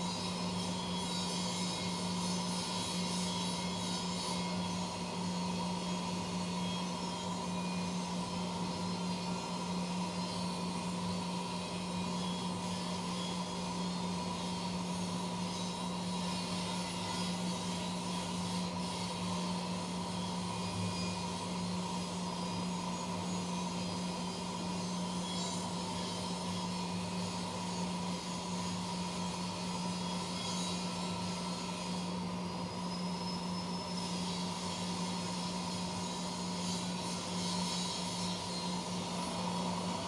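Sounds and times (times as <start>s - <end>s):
high machine whine: 0.0s - 40.0s.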